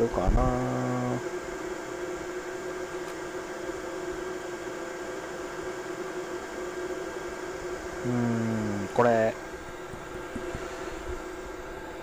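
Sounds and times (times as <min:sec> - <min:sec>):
equipment hum with fan hiss: 0:00.0 - 0:12.0.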